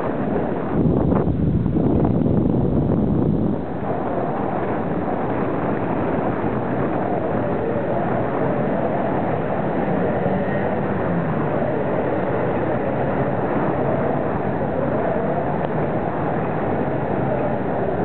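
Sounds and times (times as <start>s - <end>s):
bicycle rolling noise: 0.0s - 18.0s
wind on microphone: 0.0s - 18.0s.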